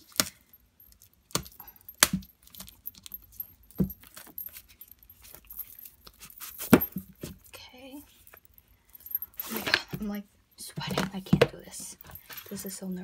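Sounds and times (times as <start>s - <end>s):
bracelets jingling and clinking: 0.0s - 13.0s.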